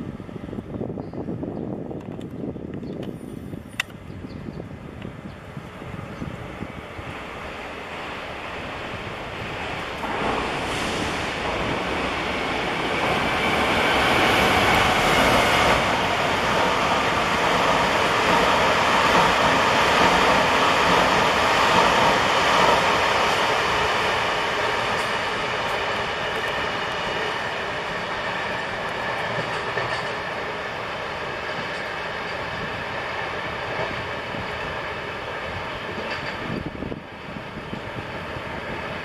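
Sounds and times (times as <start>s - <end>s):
train rushing on rails: 0.0s - 39.0s.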